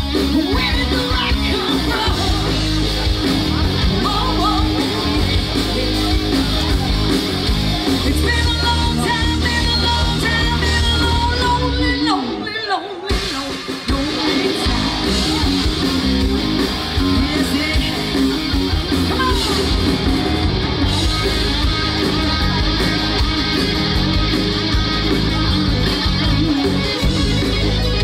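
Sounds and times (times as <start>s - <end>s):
drum kit: 0.0s - 12.4s, 13.0s - 28.0s
bass guitar: 0.0s - 28.0s
electric guitar: 0.0s - 28.0s.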